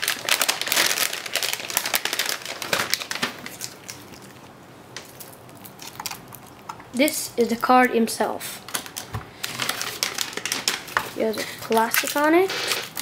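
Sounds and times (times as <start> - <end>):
anti-static bag crinkling: 0.0 - 13.0.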